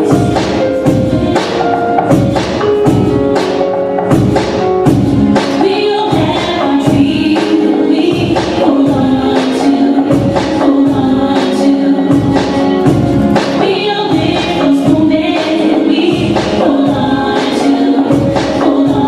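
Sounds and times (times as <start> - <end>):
loud music with singing: 0.0 - 19.0.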